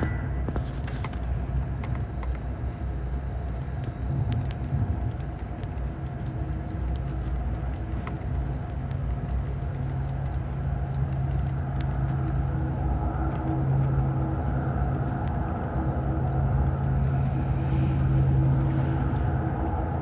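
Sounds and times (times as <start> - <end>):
simulated diesel engine rumble: 0.0 - 20.0.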